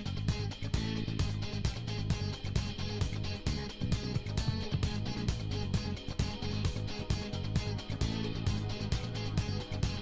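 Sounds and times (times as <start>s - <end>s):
fast beat music with guitar: 0.0s - 10.0s.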